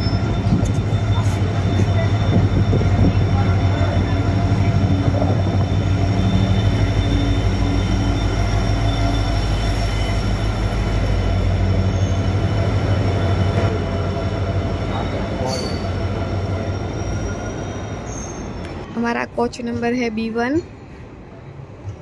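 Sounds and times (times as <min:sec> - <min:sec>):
high-pitched wheel squealing: 0:00.0 - 0:14.2, 0:14.9 - 0:18.9
train coaches rumbling past: 0:00.0 - 0:22.0.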